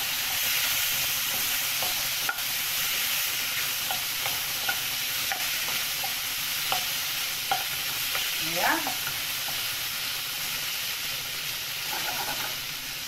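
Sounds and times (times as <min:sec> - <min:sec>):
vegetables sizzling in a hot pan: 0:00.0 - 0:13.0.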